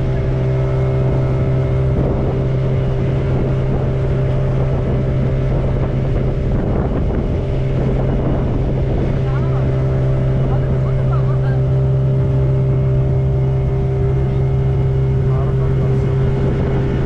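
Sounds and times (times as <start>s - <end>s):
motorboat engine droning: 0.0s - 17.0s
wind noise on microphone: 0.0s - 17.0s.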